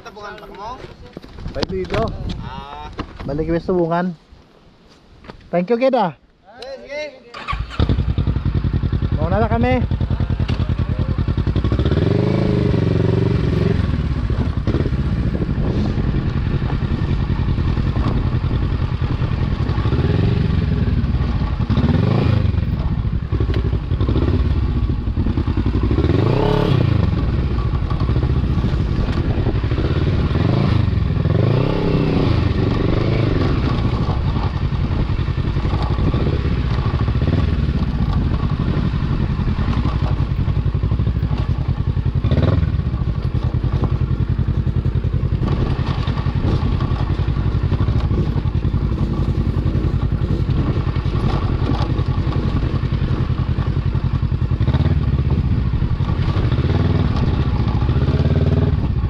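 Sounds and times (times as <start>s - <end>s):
motorcycle knocks and clatter: 0.6s - 3.4s, 8.0s - 59.0s
motorcycle engine revving: 7.4s - 59.0s.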